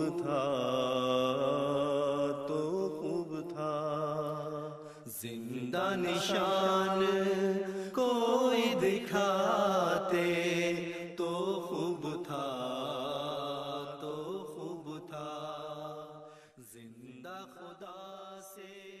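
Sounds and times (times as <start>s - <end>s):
person singing chant-like: 0.0s - 19.0s.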